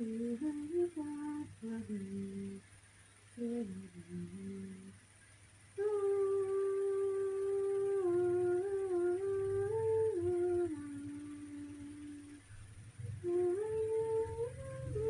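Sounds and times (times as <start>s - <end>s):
woman humming: 0.0s - 2.6s, 3.4s - 5.0s, 5.8s - 15.0s.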